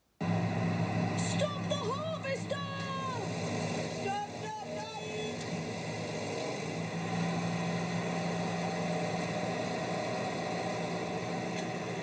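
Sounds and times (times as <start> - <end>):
harvester engine idling: 0.2 - 12.0.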